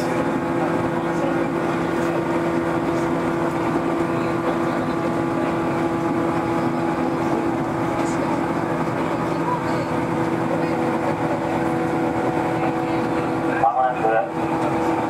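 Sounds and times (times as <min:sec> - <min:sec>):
electric train hum: 0:00.0 - 0:15.0
train rolling noise: 0:00.0 - 0:15.0.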